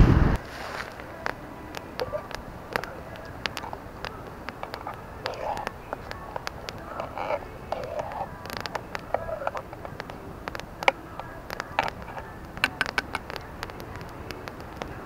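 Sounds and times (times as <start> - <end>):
burning logs popping: 0.0 - 15.0
campfire crackling: 0.0 - 15.0.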